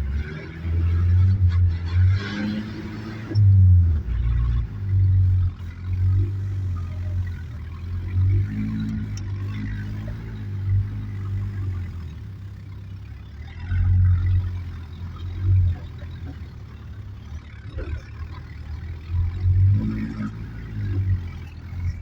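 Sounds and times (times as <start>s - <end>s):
vehicle engine revving: 0.0s - 22.0s.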